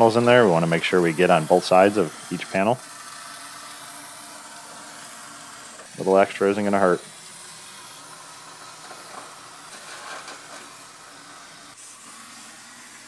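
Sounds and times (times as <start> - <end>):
aerosol can spraying hiss: 0.0 - 13.0.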